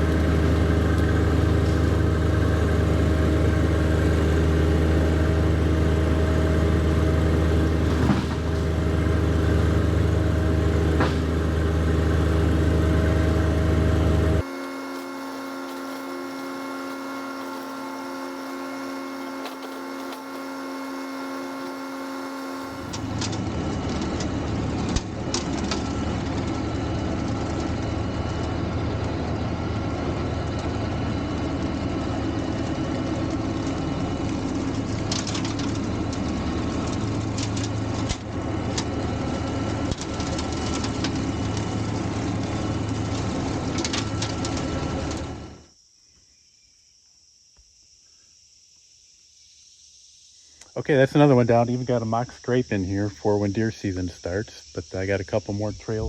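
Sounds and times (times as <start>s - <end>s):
mower cutting brush: 0.0s - 45.7s
tractor diesel engine running: 0.0s - 45.7s, 50.7s - 56.0s.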